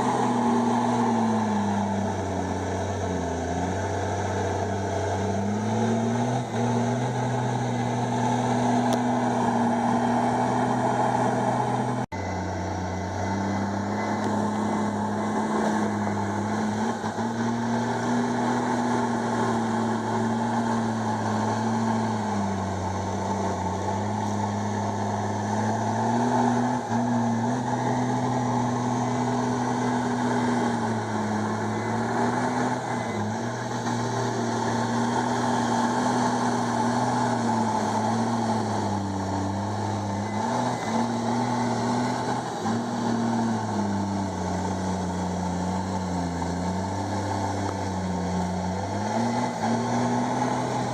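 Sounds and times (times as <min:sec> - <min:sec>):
bulldozer diesel engine under load: 0:00.0 - 0:50.9.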